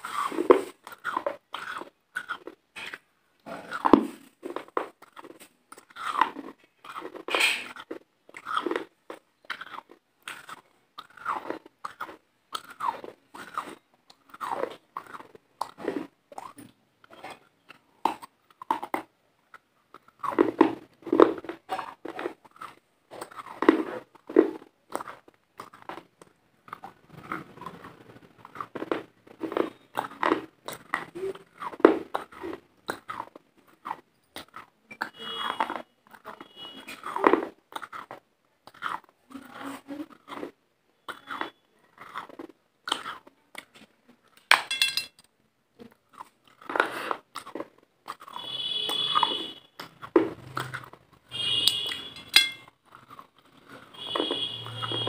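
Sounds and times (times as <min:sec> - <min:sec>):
crunching and chewing food: 0:00.0 - 0:55.0.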